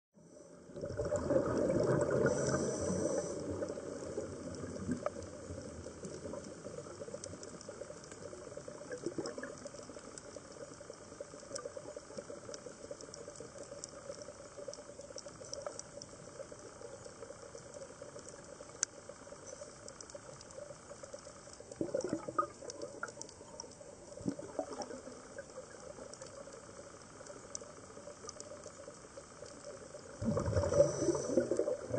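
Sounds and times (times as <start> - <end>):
low water hiss: 0.2 - 31.9
regulator bubbling and gurgling: 0.6 - 31.9
faint clicks: 0.7 - 31.9.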